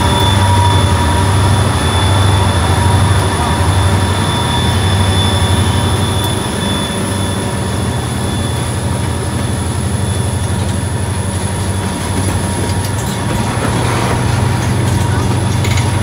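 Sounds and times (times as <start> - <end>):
boxcars rolling on rails: 0.0 - 16.0
diesel locomotive passing: 0.0 - 16.0.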